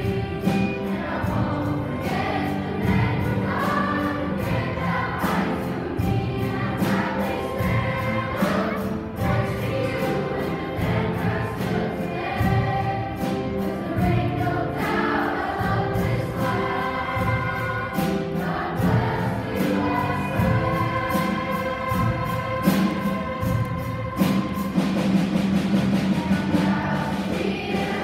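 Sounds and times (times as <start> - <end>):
children's choir singing: 0.0 - 28.0
instrumental accompaniment with beat: 0.0 - 28.0.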